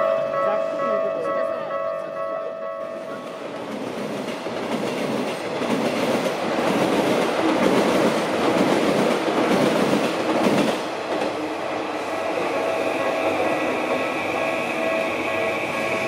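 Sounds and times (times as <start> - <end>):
train wheels rumbling over rails: 2.8 - 16.0.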